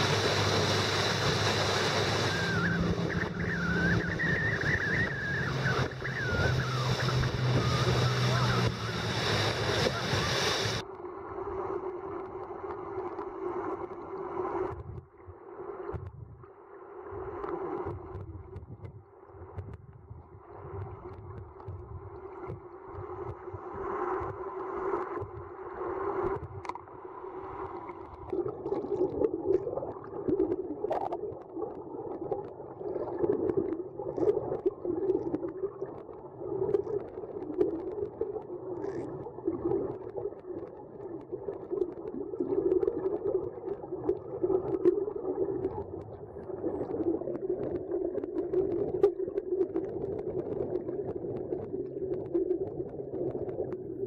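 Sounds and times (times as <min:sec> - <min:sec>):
wavering underwater hum: 0:00.0 - 0:54.0.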